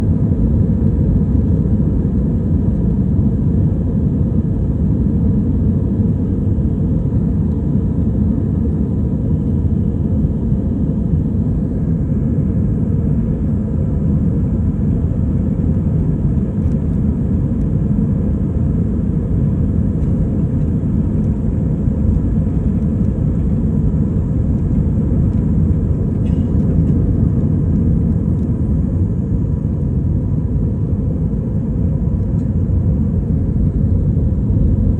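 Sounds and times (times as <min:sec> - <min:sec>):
jet engines rumbling: 0:00.0 - 0:34.9.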